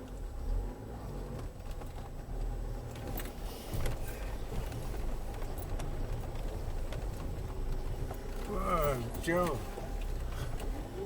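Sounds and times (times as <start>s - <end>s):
car engine rumble inside cabin: 0.0s - 11.0s
light knocks and rattles: 1.4s - 11.0s.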